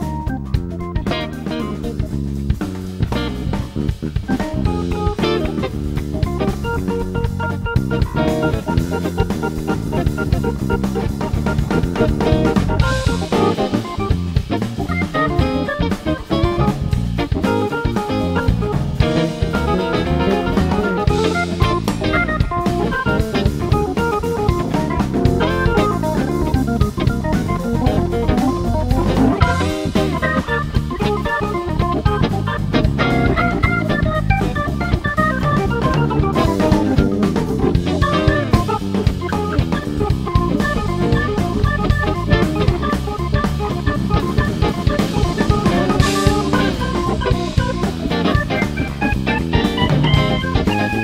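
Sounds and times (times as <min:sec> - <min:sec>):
bass guitar: 0:00.0 - 0:51.0
drum kit: 0:00.0 - 0:51.0
guitar: 0:00.0 - 0:51.0
organ: 0:00.0 - 0:51.0.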